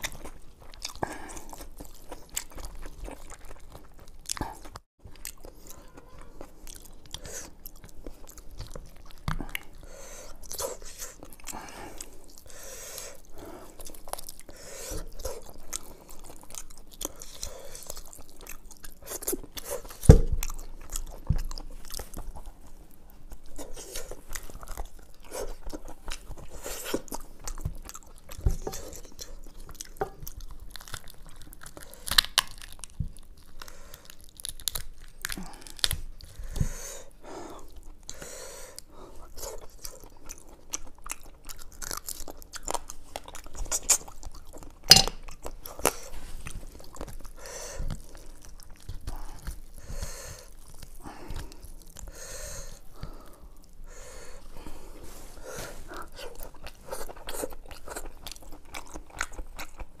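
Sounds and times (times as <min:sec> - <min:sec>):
person chewing and crunching: 0:00.0 - 1:00.0.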